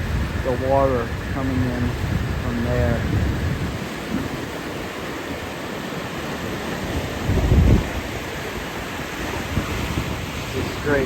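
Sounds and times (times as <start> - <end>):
water rushing: 0.0 - 11.0
wind buffeting microphone: 0.0 - 11.0.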